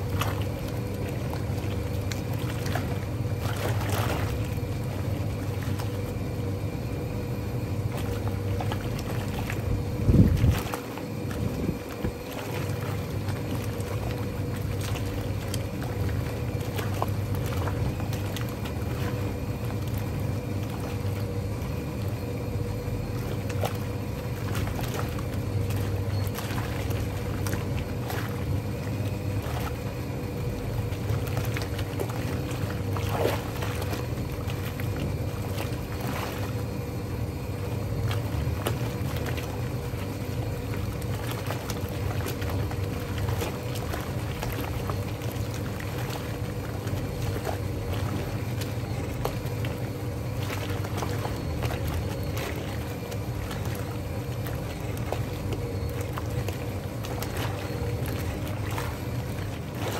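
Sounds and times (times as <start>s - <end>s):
washing machine motor hum: 0.0s - 59.9s
water churning and sloshing: 0.0s - 59.9s.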